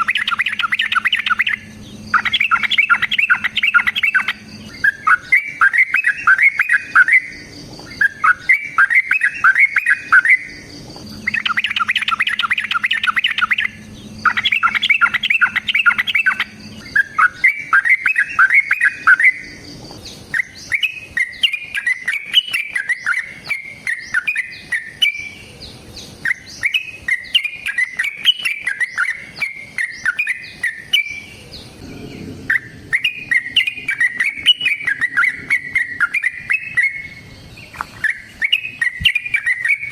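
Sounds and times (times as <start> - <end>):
bird singing bubbling phrases: 0.0 - 39.9.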